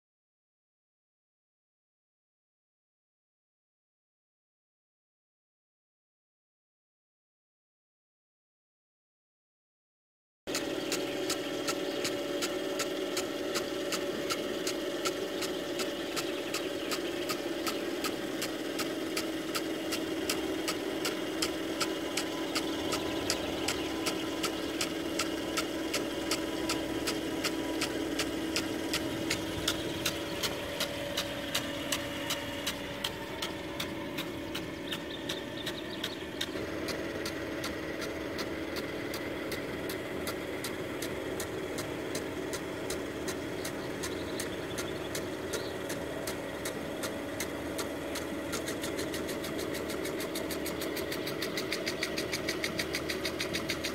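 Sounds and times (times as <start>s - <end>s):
sprinkler gun clicking: 10.5s - 53.9s
steady machine hum: 10.5s - 53.9s.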